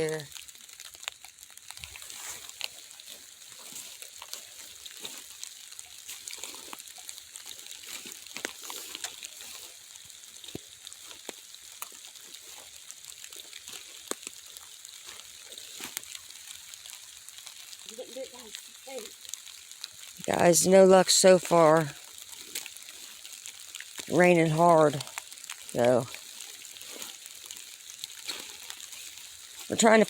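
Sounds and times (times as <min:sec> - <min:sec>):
hard rain falling: 0:00.0 - 0:30.0.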